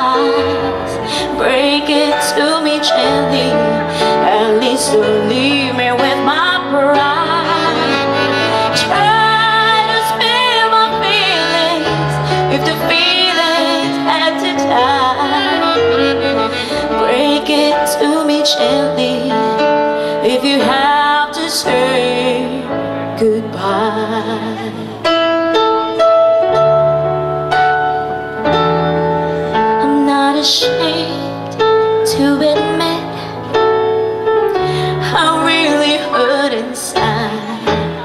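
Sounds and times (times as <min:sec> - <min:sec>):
woman singing: 0:00.0 - 0:25.1, 0:29.6 - 0:38.0
electric piano chords: 0:00.0 - 0:38.0.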